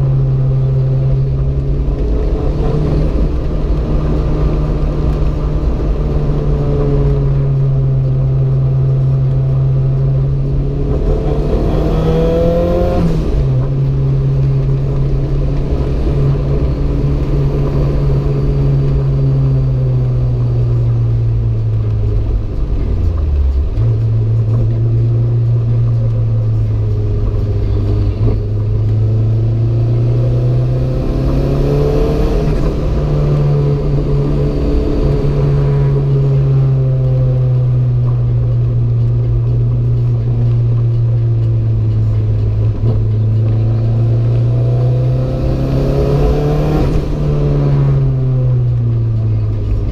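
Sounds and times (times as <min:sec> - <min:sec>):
car engine running hard: 0:00.0 - 0:49.9.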